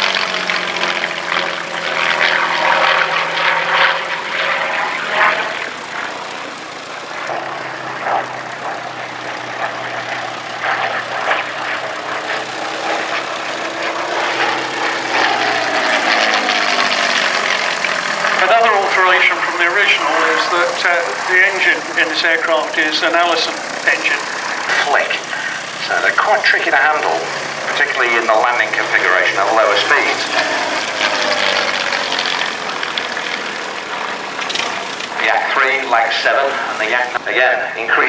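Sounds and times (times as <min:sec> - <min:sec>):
propeller plane flying past: 0:00.0 - 0:38.0.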